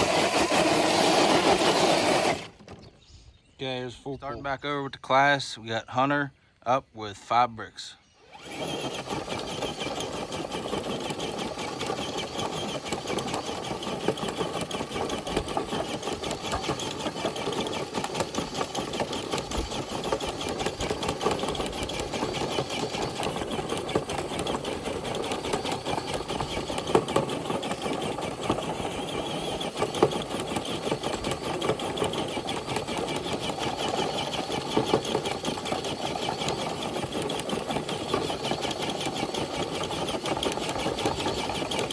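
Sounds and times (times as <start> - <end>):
electric motor whirring with ticking: 0.0 - 2.6, 8.2 - 41.9.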